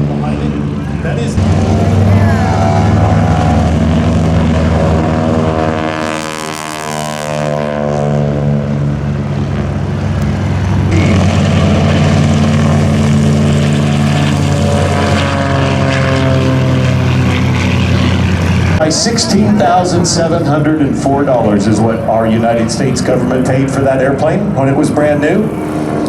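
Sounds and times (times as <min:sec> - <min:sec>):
propeller airplane flying past: 0:00.0 - 0:26.0.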